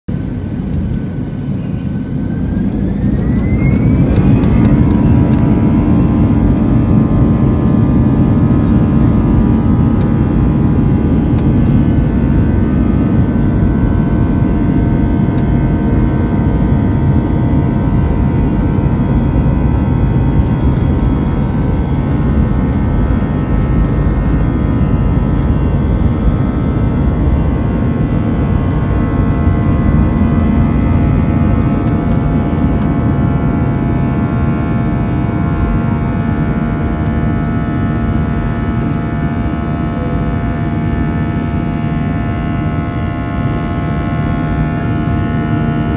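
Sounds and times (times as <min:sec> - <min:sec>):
jet engines roaring and whining: 0:00.1 - 0:45.9.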